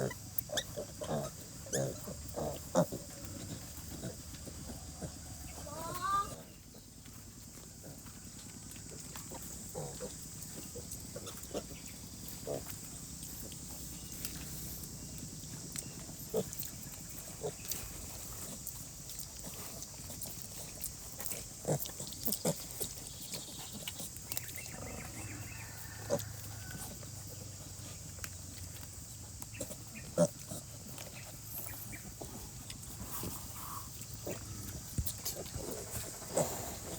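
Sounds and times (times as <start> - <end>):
pigs grunting: 0.0 - 36.9.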